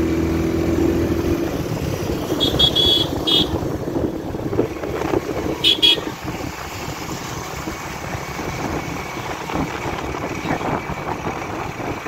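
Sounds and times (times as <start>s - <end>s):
two-stroke motorcycle engine running: 0.0s - 12.0s
wind and road noise: 0.0s - 12.0s.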